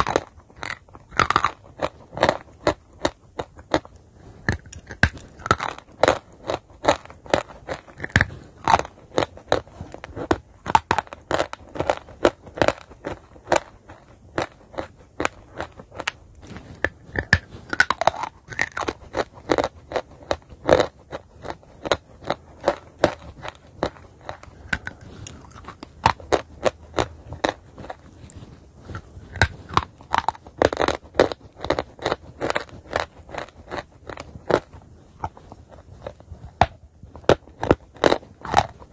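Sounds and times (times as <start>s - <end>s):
chalk being chewed: 0.0s - 38.9s.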